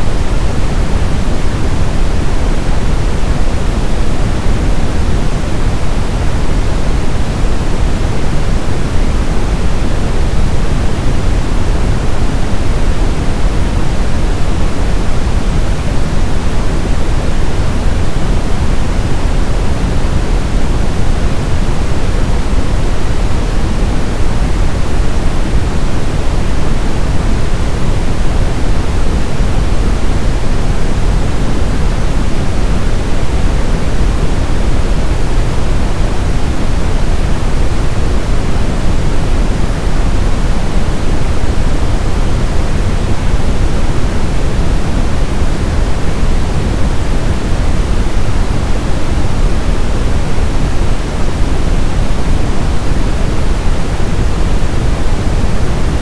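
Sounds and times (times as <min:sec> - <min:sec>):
brown noise rumble: 0:00.0 - 0:56.0.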